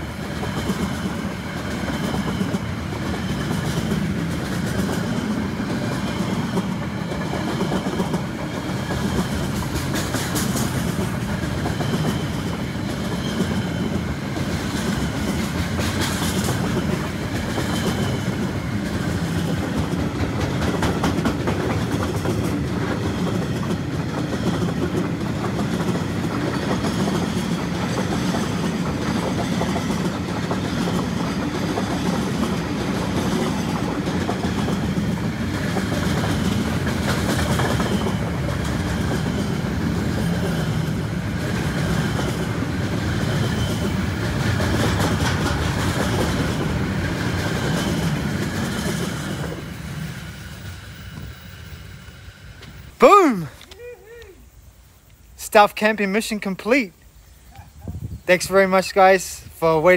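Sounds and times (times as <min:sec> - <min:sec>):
clickety-clack over rail joints: 0:00.0 - 0:51.5
train wheels rumbling on rails: 0:00.0 - 0:59.9.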